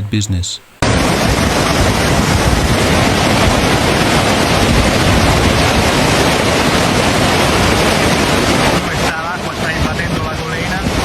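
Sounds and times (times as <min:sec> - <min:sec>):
floodwater rushing: 0:00.8 - 0:11.0
wind rumbling on microphone: 0:00.8 - 0:11.0.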